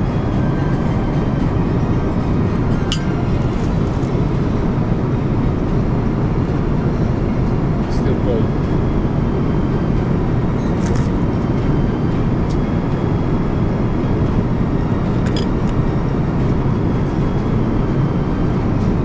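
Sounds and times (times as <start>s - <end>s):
airliner cabin noise: 0.0s - 19.0s.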